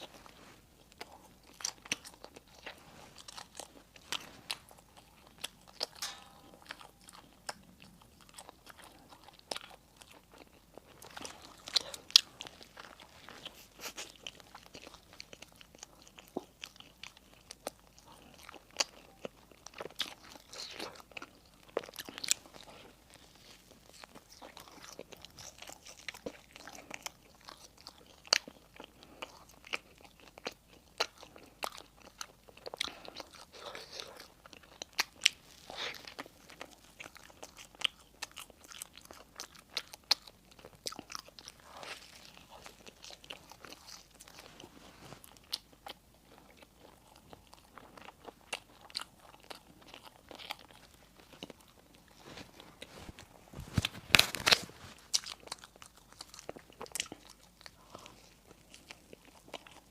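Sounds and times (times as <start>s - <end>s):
crunchy chewing of crisp bread: 0.0s - 59.9s.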